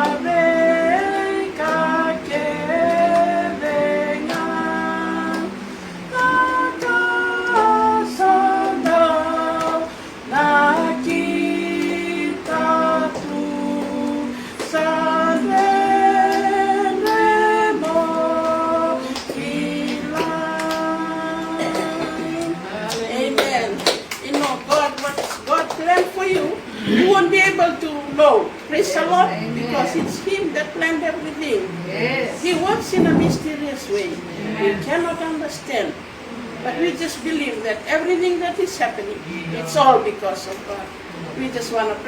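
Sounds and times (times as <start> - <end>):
women singing a hymn: 0.0 - 24.1, 26.2 - 38.4.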